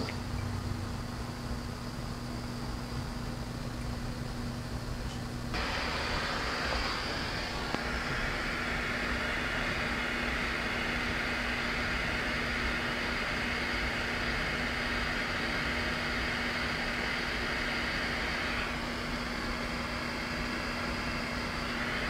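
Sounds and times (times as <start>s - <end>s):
gas torch hissing: 0.0s - 22.0s.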